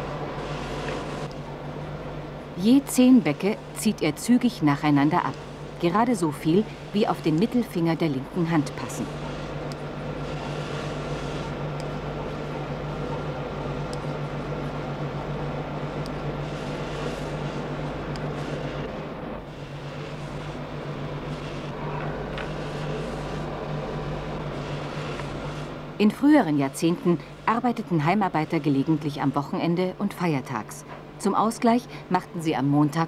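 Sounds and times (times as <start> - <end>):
workshop machine hum: 0.0 - 33.0.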